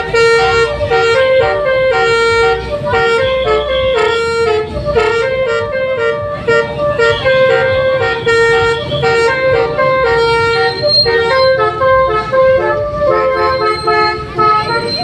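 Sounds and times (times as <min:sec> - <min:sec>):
musical bus horns: 0:00.0 - 0:15.0.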